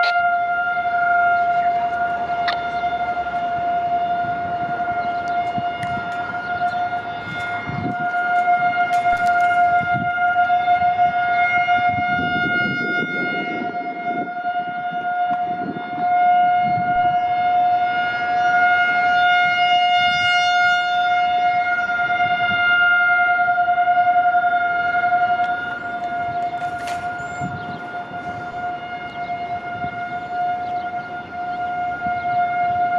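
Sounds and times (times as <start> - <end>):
rotating warning siren: 0.0 - 32.9.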